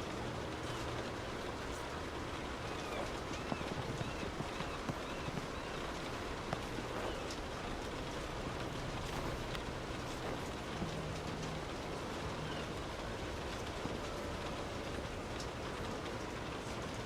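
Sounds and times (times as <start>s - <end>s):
rain on a car: 0.0s - 17.0s.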